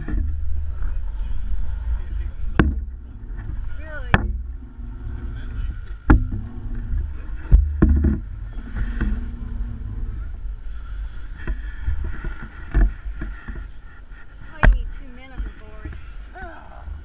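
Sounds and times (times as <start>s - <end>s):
hull thumping on waves: 0.0s - 16.4s
outboard motors rumbling: 0.0s - 17.0s
water noise: 0.0s - 17.0s
wind noise: 0.0s - 17.0s.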